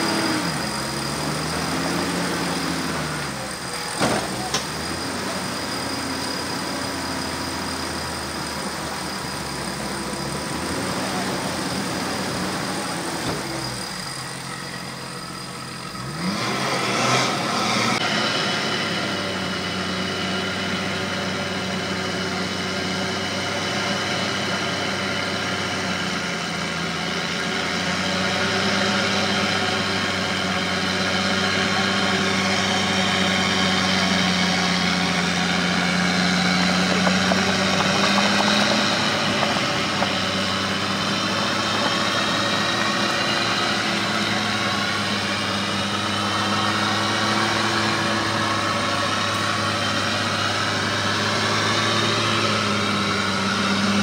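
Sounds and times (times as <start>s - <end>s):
vehicle engine running and revving: 0.0s - 54.0s.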